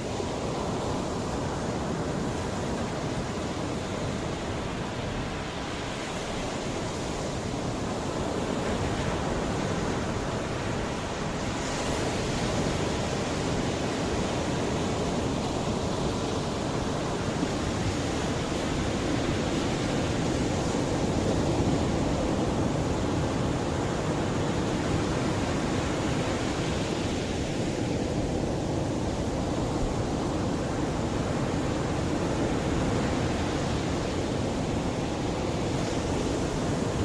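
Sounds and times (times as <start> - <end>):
sea waves washing onto shore: 0.0 - 37.0.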